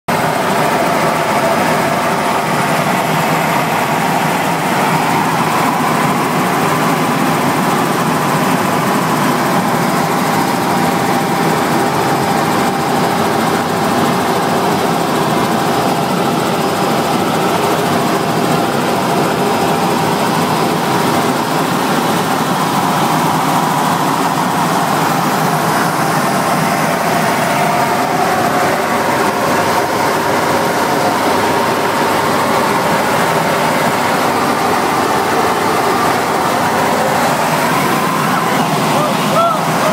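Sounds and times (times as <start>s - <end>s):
helicopter engine and rotors droning: 0.1s - 39.9s.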